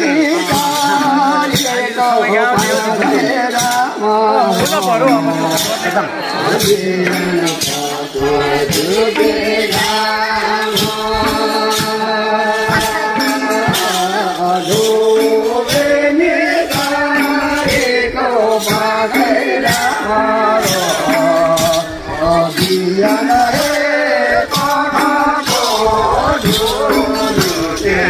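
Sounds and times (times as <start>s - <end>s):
percussion steady beat: 0.0s - 28.0s
person singing festival song: 0.0s - 28.0s.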